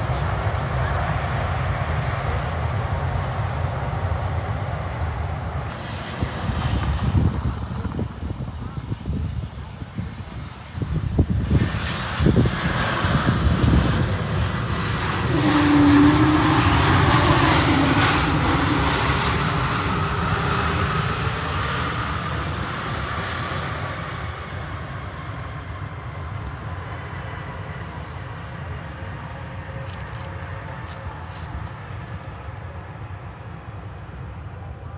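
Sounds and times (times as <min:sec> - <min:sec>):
jet airliner engine roar: 0:00.0 - 0:34.9.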